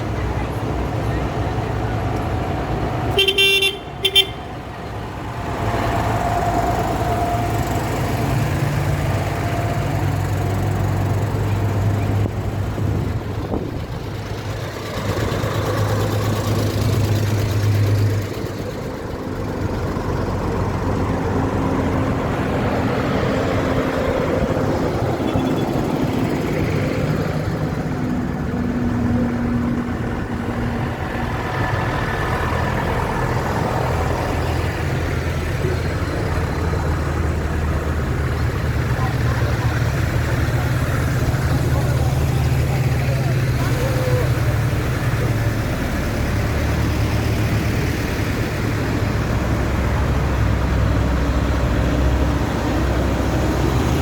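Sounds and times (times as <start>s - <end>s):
tractor engines humming: 0.0s - 54.0s.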